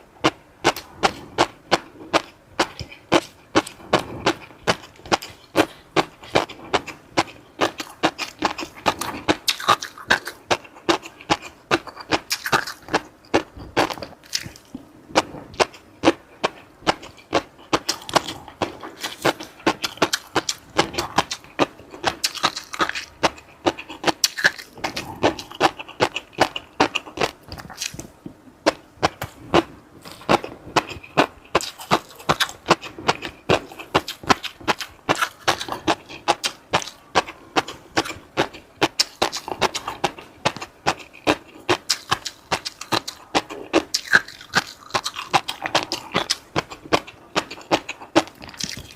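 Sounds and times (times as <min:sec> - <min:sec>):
food being bitten and chewed: 0:00.0 - 0:48.9.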